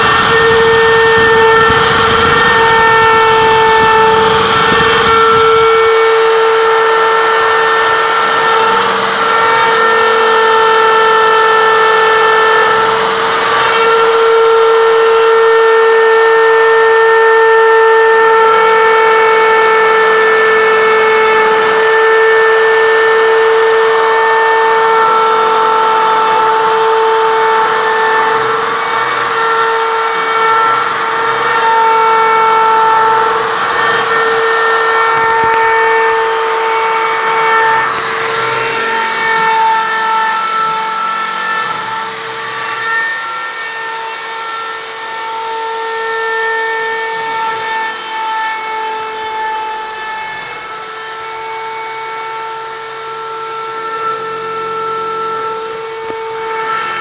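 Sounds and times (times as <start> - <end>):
router high whine: 0.0 - 57.0.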